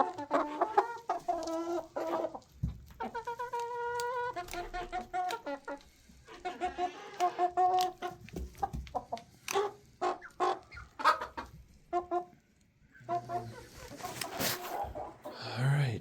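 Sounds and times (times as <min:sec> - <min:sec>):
chickens clucking: 0:00.0 - 0:15.3.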